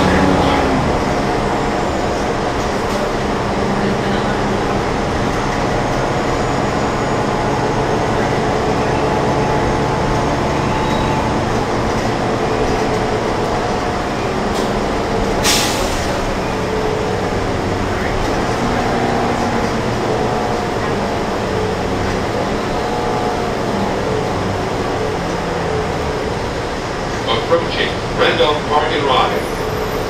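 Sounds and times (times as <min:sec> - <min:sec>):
bus engine drone: 0:00.0 - 0:30.0
road noise: 0:00.0 - 0:30.0.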